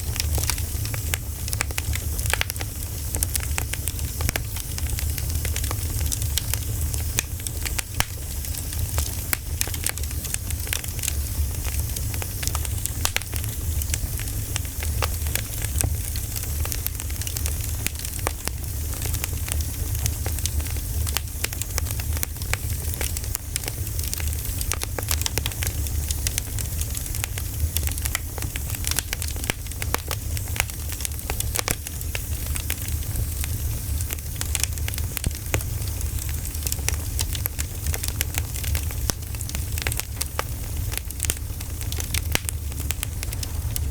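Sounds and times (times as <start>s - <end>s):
campfire crackling and popping: 0.0s - 43.9s
low rumble and hiss: 0.0s - 43.9s.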